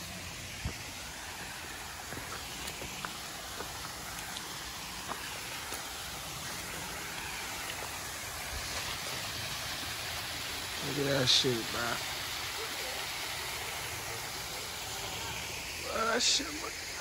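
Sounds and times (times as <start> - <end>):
waterfall splashing onto rocks: 0.0 - 17.0.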